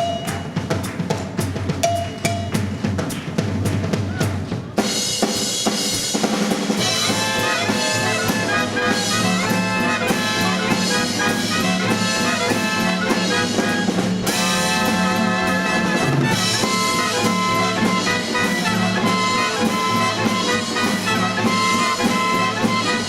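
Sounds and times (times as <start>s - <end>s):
dance band playing jazz: 0.0s - 23.0s
drum break: 0.0s - 23.0s.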